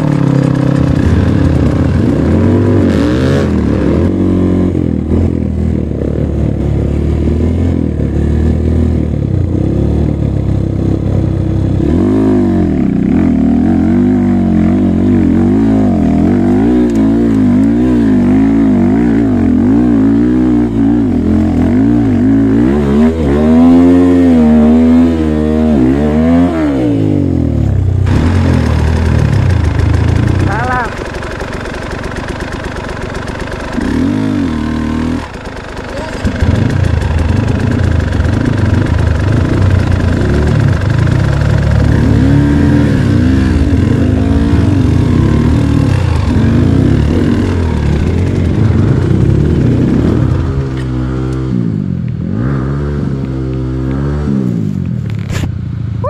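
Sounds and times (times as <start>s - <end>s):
dirt bike engine revving: 0.0s - 55.6s
engine running steadily: 0.0s - 56.0s.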